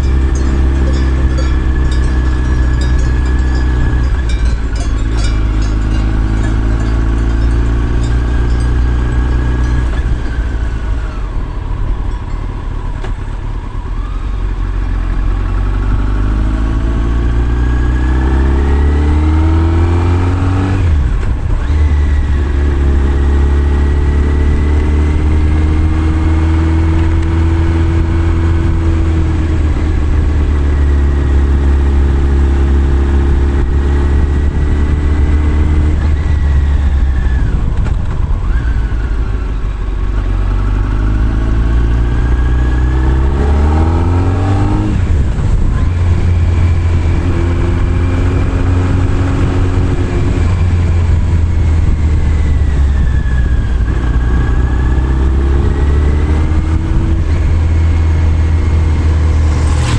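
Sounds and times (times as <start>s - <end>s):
motorcycle engine: 0.0s - 59.9s
wind and road noise: 0.0s - 59.9s.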